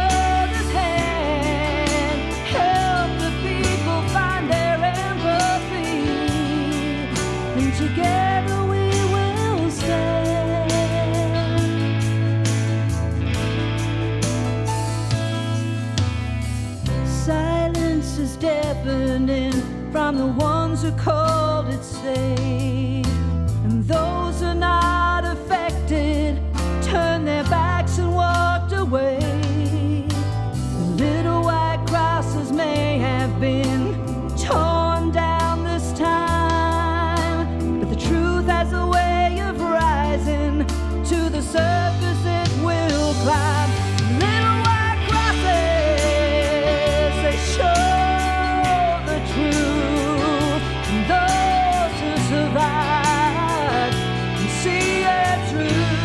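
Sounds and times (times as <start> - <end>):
band music with wavering melody: 0.0 - 56.0.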